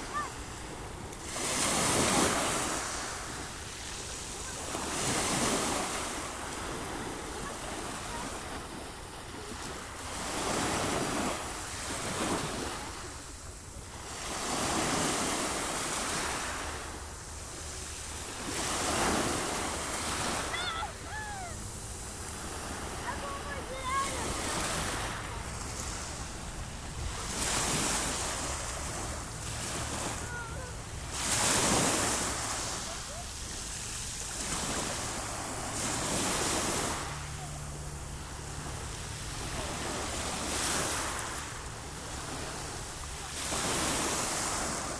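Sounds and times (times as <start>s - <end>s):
sea waves washing on shore: 0.0s - 44.9s.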